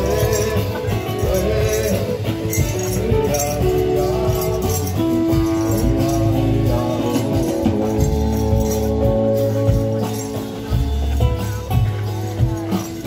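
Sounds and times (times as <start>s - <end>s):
guitars: 0.0s - 13.0s
jingling tambourine-like percussion: 0.0s - 13.0s
live band playing: 0.0s - 13.0s.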